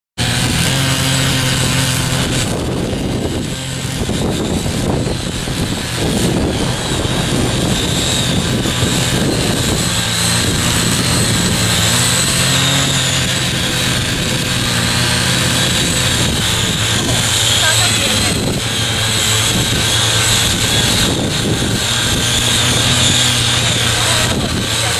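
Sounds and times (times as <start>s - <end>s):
small gasoline engine running: 0.2s - 24.9s.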